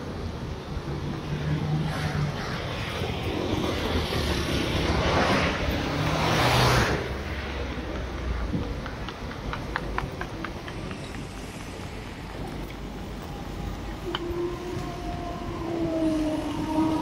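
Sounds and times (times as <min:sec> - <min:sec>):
cars passing close by: 0:00.0 - 0:17.0.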